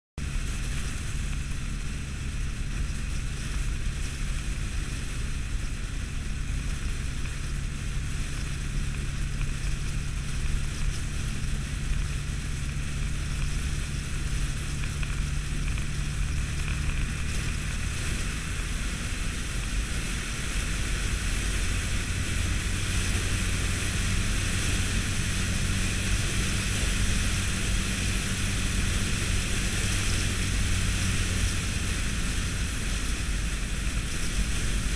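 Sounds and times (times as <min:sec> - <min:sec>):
motorcycle engine hum: 0:00.2 - 0:34.9
wind rush on microphone: 0:00.2 - 0:34.9.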